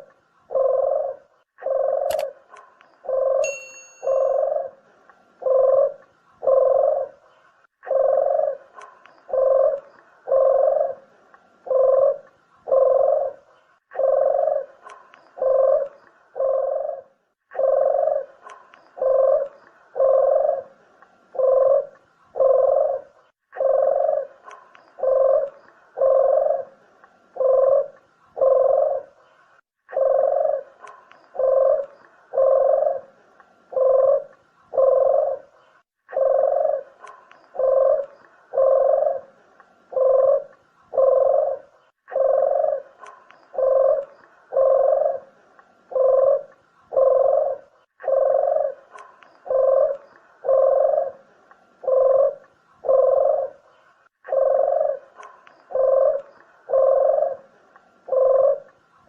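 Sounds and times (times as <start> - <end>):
dove cooing: 0.0 - 58.7.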